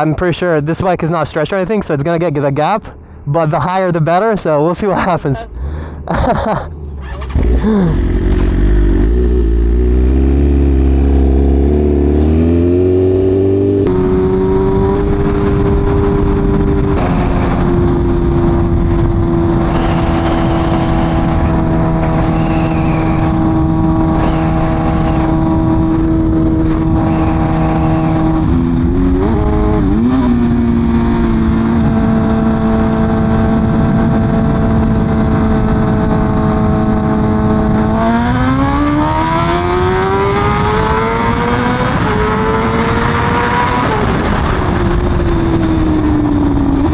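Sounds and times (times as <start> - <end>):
motorcycle engine revving: 6.8 - 46.9.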